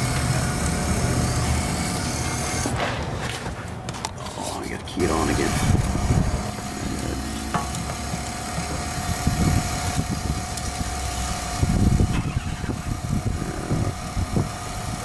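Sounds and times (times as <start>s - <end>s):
electric fuel pump whining: 0.0s - 2.8s, 5.0s - 15.0s.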